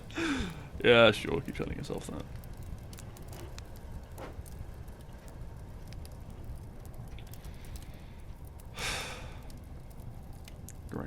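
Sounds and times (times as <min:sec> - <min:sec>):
low rumble: 0:00.0 - 0:11.0
wood fire crackling: 0:00.0 - 0:11.0.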